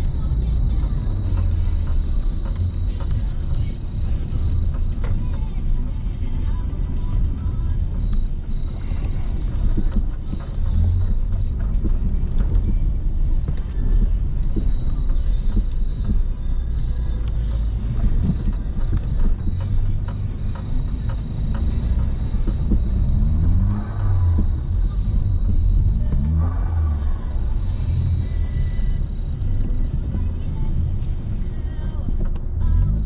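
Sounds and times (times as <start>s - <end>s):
car driving on snow: 0.0s - 33.0s.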